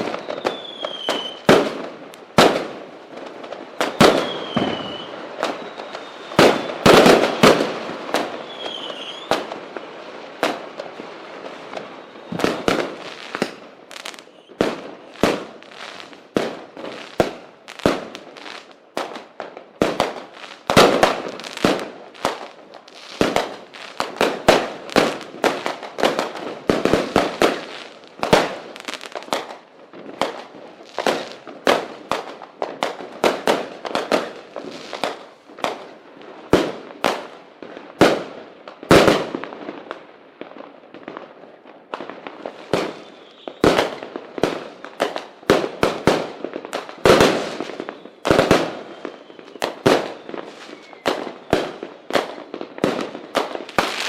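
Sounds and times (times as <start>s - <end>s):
fireworks bangs and pops: 0.0s - 54.0s.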